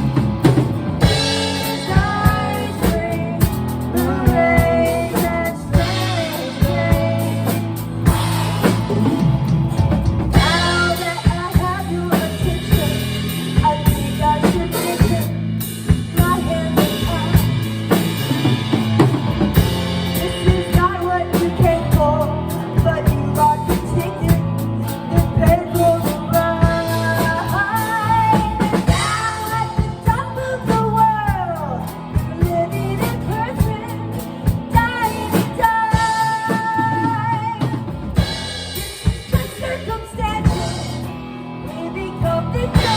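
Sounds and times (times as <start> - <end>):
drum kit: 0.0 - 42.9
rock song: 0.0 - 42.9.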